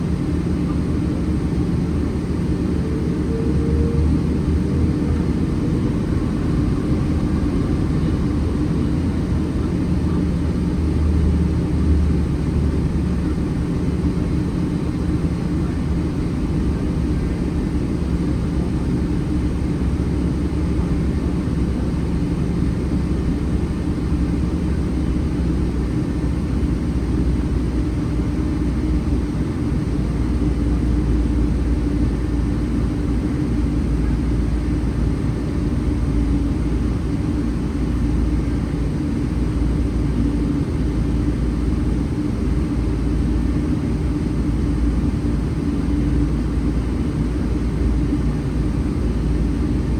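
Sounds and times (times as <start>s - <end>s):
jet engines in aircraft cabin: 0.0s - 49.9s.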